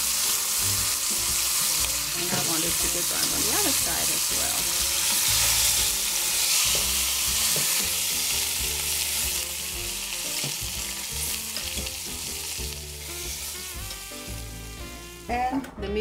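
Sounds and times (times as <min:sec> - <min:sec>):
pork roast sizzling in oil: 0:00.0 - 0:15.4.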